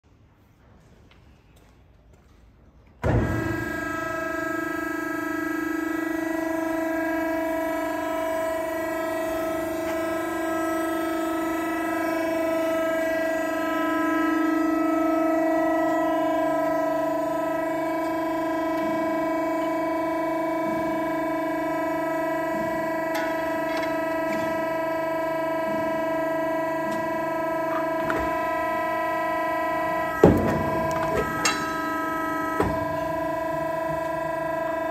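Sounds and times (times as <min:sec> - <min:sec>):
hydraulic pump high-pitched hum: 0:03.0 - 0:34.9
machine motor droning with whine: 0:03.0 - 0:34.9.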